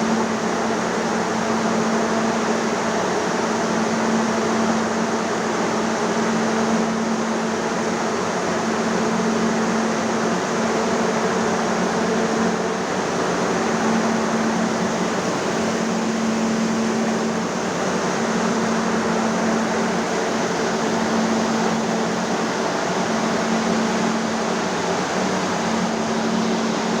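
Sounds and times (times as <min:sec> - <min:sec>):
constant machine hum: 0:00.0 - 0:27.0.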